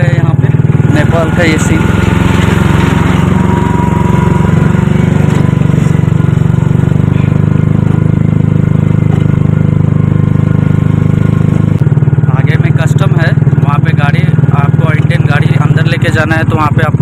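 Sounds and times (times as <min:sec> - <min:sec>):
auto-rickshaw engine chugging: 0:00.0 - 0:17.0.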